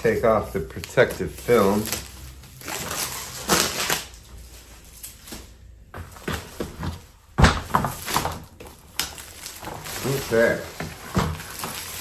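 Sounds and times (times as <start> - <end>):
plastic film crinkling: 0.0 - 5.6, 7.7 - 12.0.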